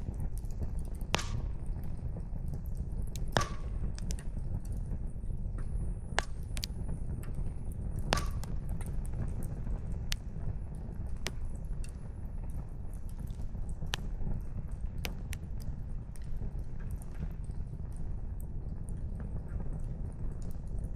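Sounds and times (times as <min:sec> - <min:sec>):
logs crackling and popping: 0:00.0 - 0:20.9
wood fire rumbling: 0:00.0 - 0:20.9.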